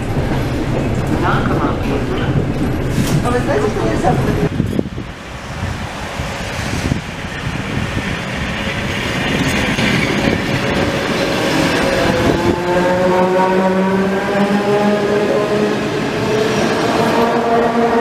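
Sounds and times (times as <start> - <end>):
electric train rumbling past: 0.0 - 18.0
multi-tone train whine: 0.0 - 18.0.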